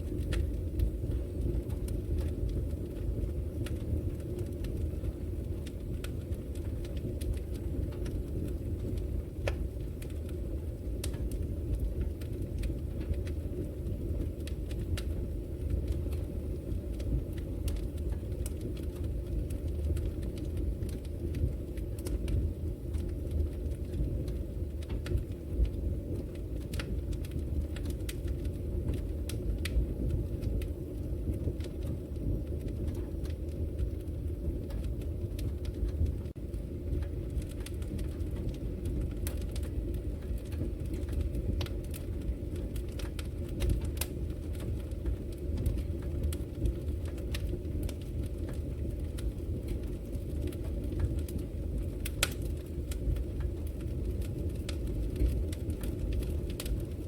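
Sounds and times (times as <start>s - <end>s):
fire crackles and pops: 0.0s - 57.0s
low rumble of fire: 0.0s - 57.0s.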